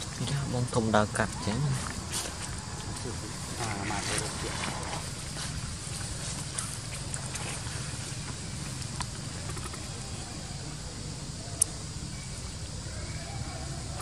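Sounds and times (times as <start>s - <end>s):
outdoor background hum: 0.0s - 14.0s.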